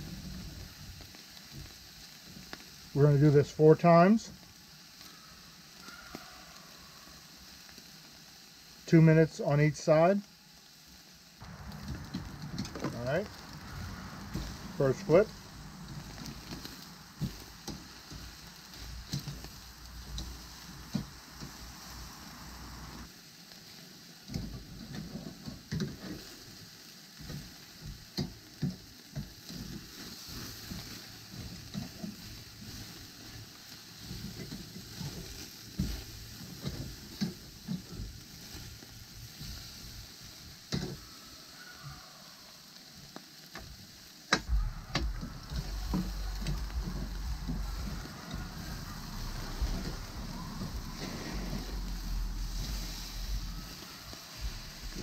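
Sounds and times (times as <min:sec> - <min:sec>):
steaks sizzling on grill: 0:00.0 - 0:55.0.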